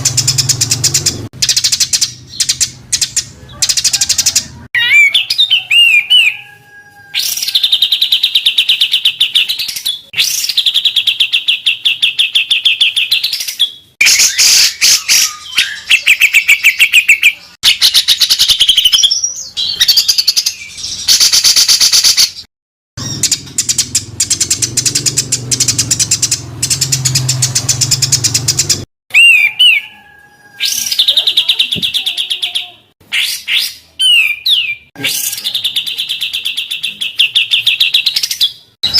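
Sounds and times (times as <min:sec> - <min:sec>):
songbirds singing harsh trills: 0:00.0 - 0:38.9.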